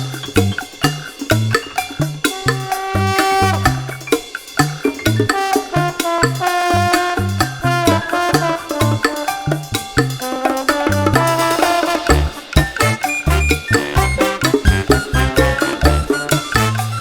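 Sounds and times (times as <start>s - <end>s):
upbeat latin music: 0.0s - 17.0s.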